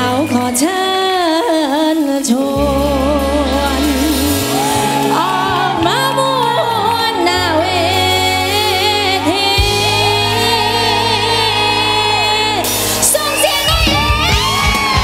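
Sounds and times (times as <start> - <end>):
live band playing: 0.0 - 15.0
woman singing into a microphone: 0.0 - 15.0.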